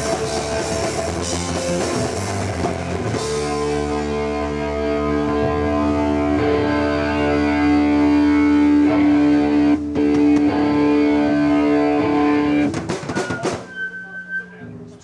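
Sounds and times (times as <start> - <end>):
distorted electric guitar chord: 0.0 - 13.0.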